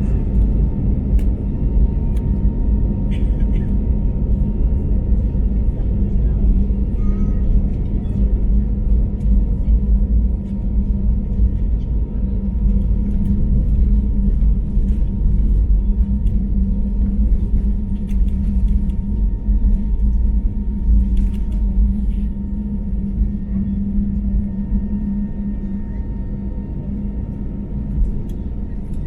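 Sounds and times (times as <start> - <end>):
jet engines rumbling in cabin: 0.0 - 29.0.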